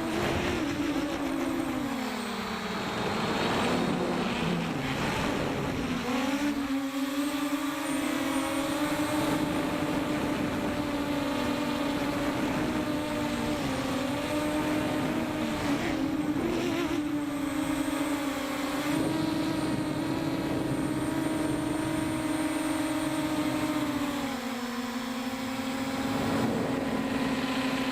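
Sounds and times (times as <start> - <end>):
drone propellers humming: 0.0 - 27.9.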